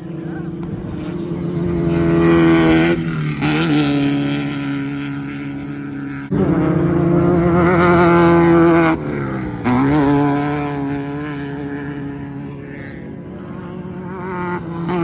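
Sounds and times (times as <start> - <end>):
race car engine at full throttle: 0.0 - 15.0.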